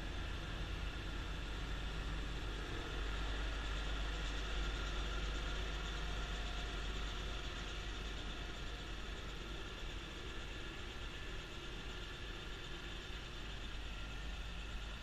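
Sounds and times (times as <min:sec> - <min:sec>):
tractor diesel engine drone: 0:00.0 - 0:15.0.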